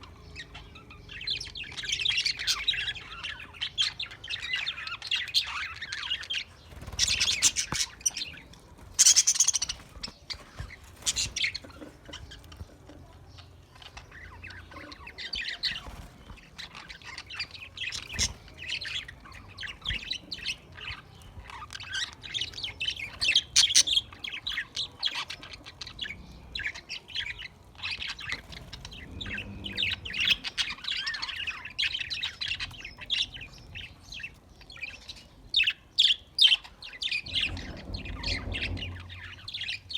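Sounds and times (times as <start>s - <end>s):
sharp bird chirps and squawks: 0.0s - 16.0s, 16.6s - 39.9s
budgerigars chattering and warbling: 0.0s - 39.9s.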